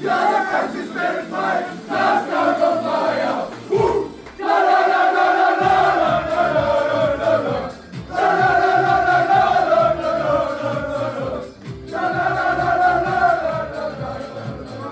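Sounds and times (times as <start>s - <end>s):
group of voices chanting: 0.0s - 14.9s.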